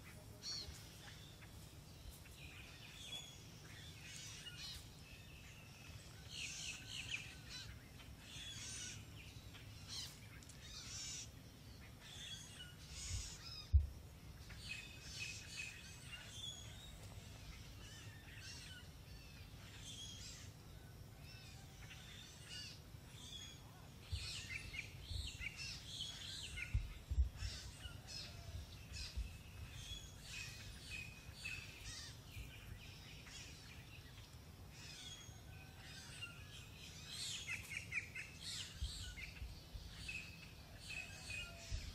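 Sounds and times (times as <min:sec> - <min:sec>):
birds chirping and calling: 0:00.0 - 0:41.9.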